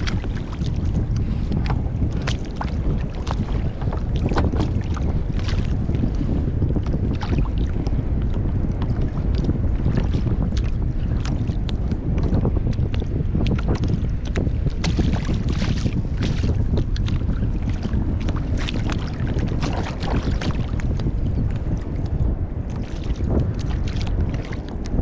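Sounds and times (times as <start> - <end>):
water splashing against hull: 0.0 - 25.0
wind buffeting microphone: 0.0 - 25.0.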